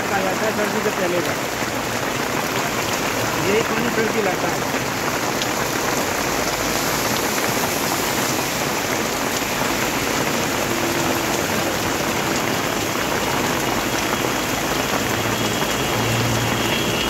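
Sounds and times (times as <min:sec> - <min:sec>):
heavy rain on road: 0:00.0 - 0:17.0.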